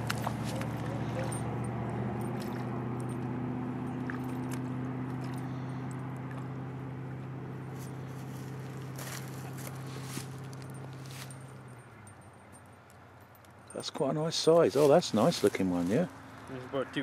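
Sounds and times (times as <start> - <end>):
steady engine hum: 0.0 - 17.0.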